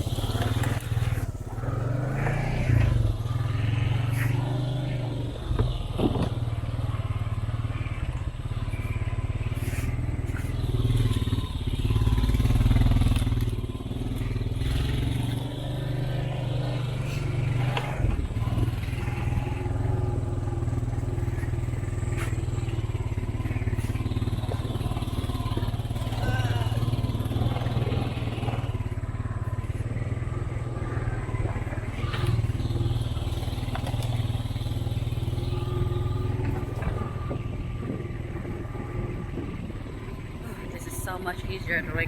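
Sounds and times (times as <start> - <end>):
vehicle engine driving: 0.0 - 42.0.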